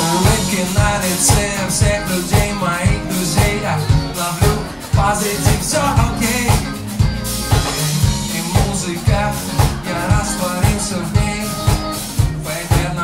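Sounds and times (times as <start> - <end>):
man singing: 0.0 - 7.0, 7.6 - 13.0
drum kit beat: 0.0 - 13.0
electric bass line: 0.0 - 13.0.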